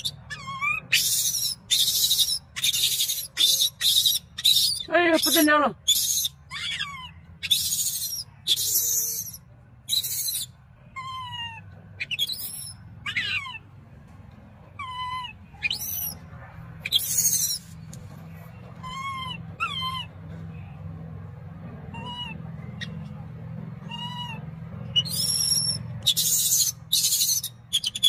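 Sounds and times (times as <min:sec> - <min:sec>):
infant monkey crying: 0:00.0 - 0:13.7, 0:14.7 - 0:17.6, 0:18.7 - 0:20.3, 0:21.8 - 0:23.2, 0:23.8 - 0:28.0.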